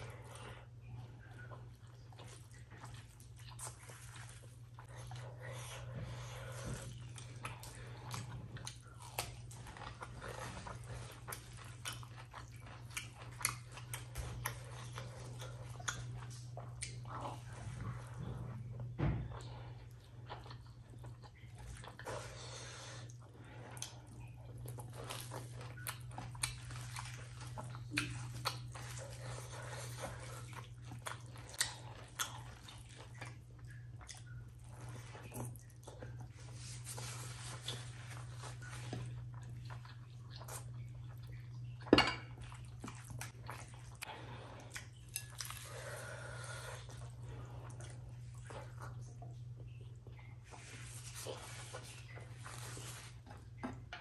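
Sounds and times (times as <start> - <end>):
steady low hum: 0.0 - 54.0
wet chewing and lip smacking: 0.2 - 54.0.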